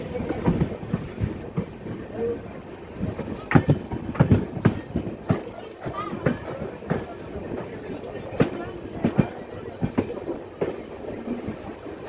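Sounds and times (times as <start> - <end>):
train wheels knocking on rails: 0.2 - 2.2, 3.0 - 11.7.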